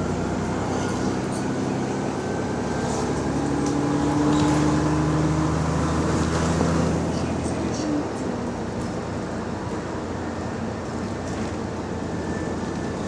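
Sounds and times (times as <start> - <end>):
bus engine running under load: 0.0 - 13.0.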